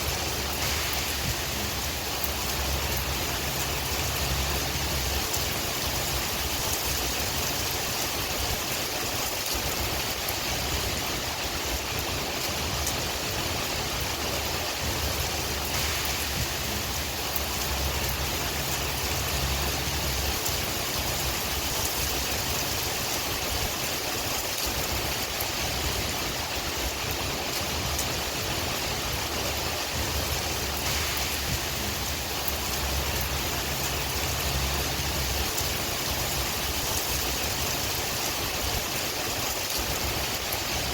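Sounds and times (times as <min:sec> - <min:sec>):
rain falling: 0:00.0 - 0:40.9
wind rumble: 0:00.0 - 0:40.9.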